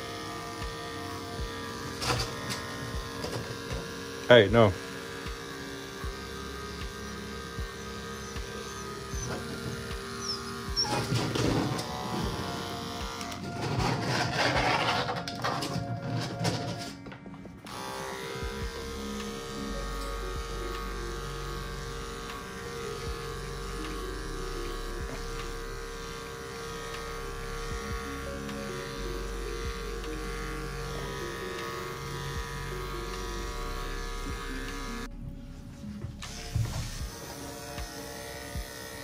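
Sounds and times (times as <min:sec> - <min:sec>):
electric dog clippers buzzing: 0:00.0 - 0:35.1, 0:36.1 - 0:39.0
background music: 0:00.0 - 0:39.0.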